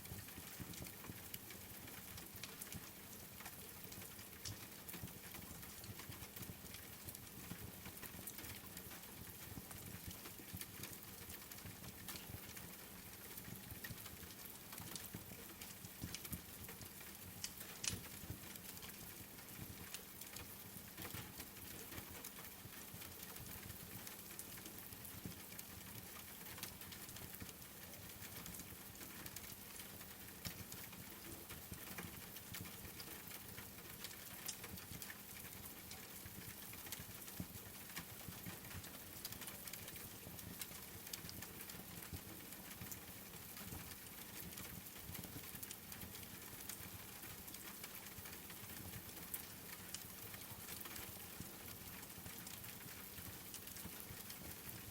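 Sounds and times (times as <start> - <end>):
steady rain: 0.0 - 54.9
wood fire crackling: 10.2 - 54.9.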